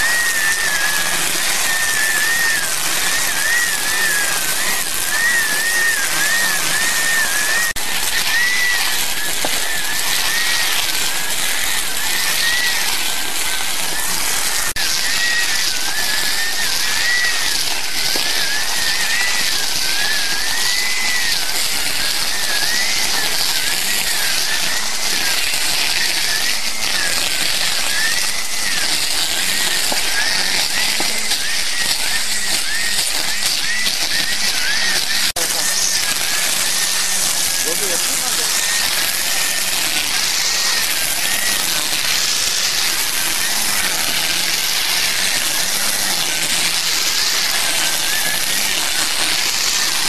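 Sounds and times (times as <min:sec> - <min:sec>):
grass trimmer motor whine: 0:00.0 - 0:50.0.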